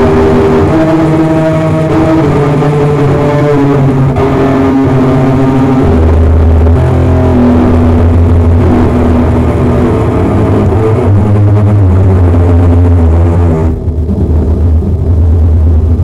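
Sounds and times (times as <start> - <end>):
droning rock music: 0.0 - 16.0
heavy deep bass: 0.0 - 16.0.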